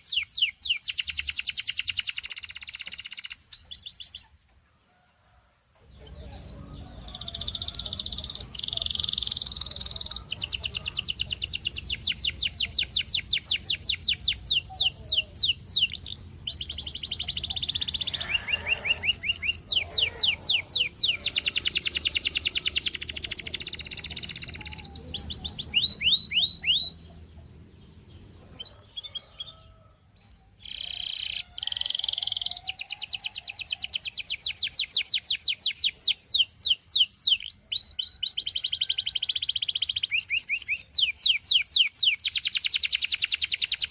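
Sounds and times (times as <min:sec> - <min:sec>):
canary singing trills: 0:00.0 - 0:04.4, 0:05.9 - 0:43.9.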